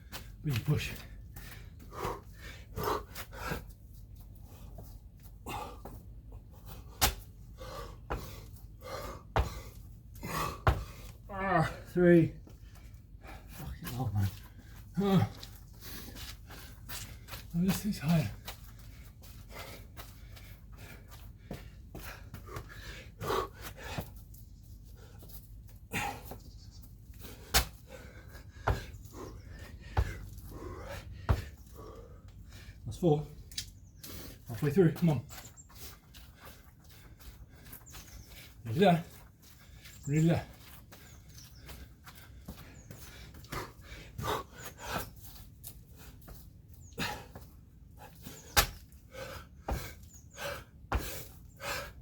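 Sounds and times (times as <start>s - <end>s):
man panting hard: 1.0s - 17.5s, 18.1s - 26.5s, 27.1s - 33.4s, 35.3s - 52.0s.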